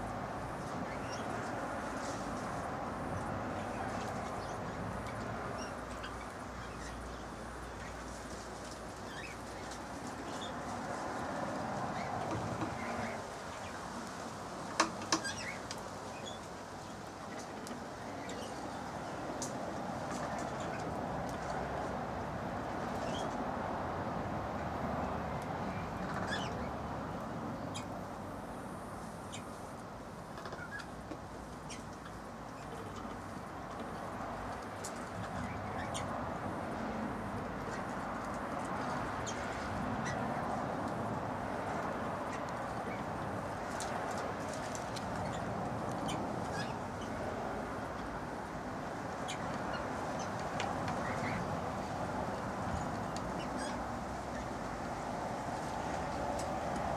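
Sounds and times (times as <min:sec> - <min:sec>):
steady background hiss: 0:00.0 - 0:56.9
steady low background noise: 0:00.0 - 0:56.9.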